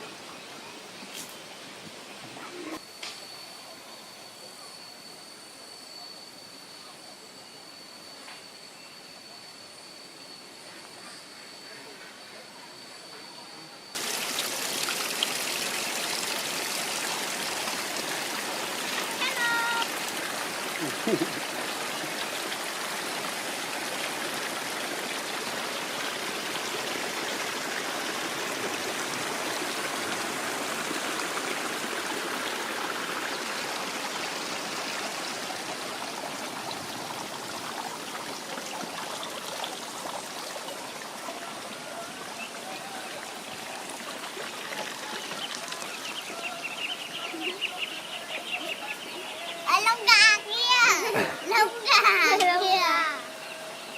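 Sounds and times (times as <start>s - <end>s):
stream water running: 0.0s - 4.1s, 13.9s - 53.9s.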